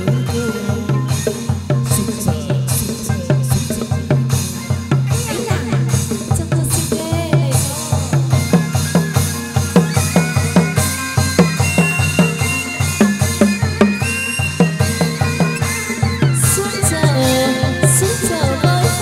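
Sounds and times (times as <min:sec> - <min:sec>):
quick drum beat: 0:00.0 - 0:19.0.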